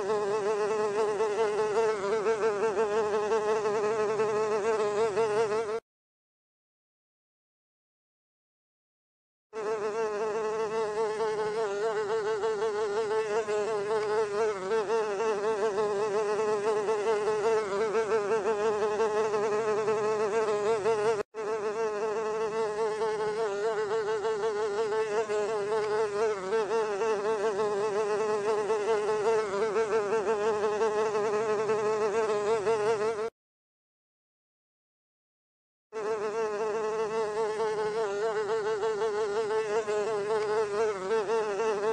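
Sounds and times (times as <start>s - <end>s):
housefly buzzing: 0.0s - 5.8s, 9.6s - 33.4s, 35.9s - 41.9s.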